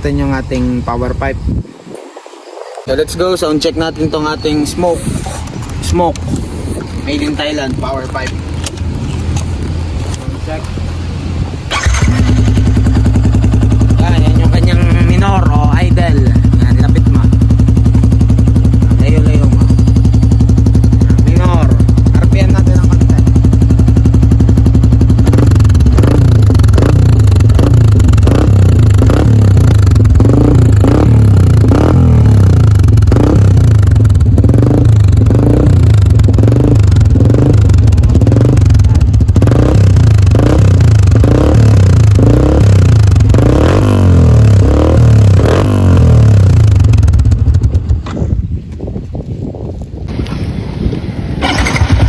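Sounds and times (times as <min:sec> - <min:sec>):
motorcycle engine revving: 0:04.2 - 0:48.4, 0:50.1 - 0:52.0.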